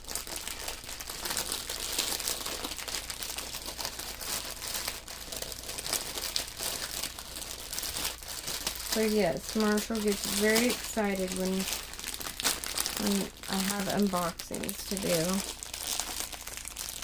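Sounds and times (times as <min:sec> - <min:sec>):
thin plastic crinkling: 0:00.0 - 0:17.0.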